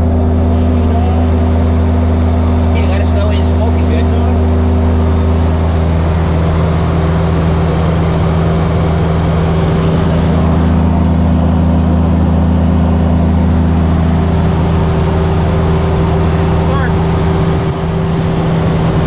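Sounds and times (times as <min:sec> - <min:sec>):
turboprop propeller drone: 0:00.0 - 0:19.0.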